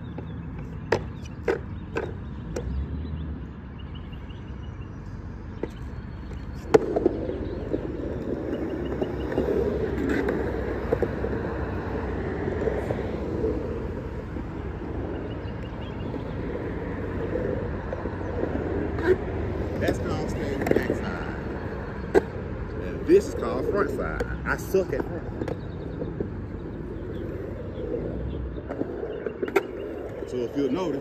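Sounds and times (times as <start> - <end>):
skateboard wheels rolling on concrete: 0.0 - 31.0
skateboard clack: 0.1 - 2.8, 5.6 - 31.0.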